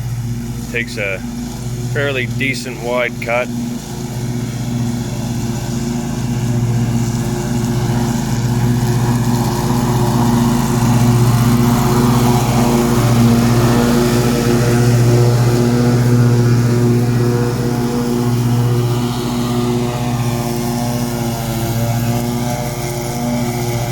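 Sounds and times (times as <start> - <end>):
lawn tractor engine mowing: 0.0 - 23.9.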